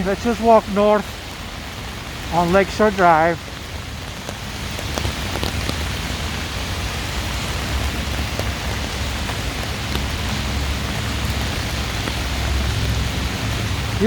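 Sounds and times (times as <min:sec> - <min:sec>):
heavy traffic on wet road: 0:00.0 - 0:14.0
rain drop ticks: 0:00.0 - 0:14.0
rain falling: 0:00.0 - 0:14.0.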